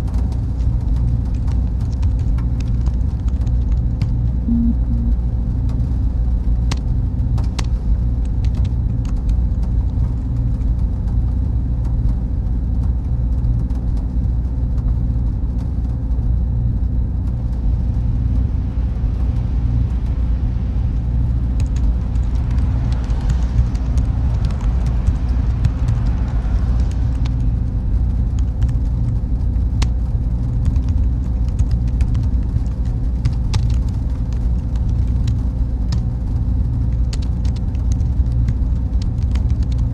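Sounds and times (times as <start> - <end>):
faint constant tone: 0.0 - 39.9
hum of machines and fans: 0.0 - 39.9.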